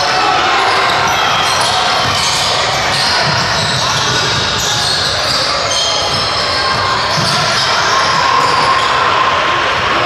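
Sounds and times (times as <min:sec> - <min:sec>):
echoing crowd noise: 0:00.0 - 0:10.0.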